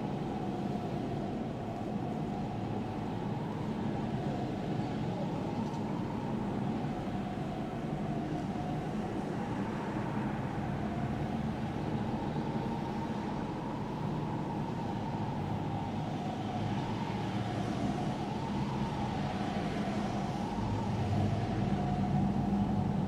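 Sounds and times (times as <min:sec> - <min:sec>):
cars passing on a road: 0:00.0 - 0:23.0.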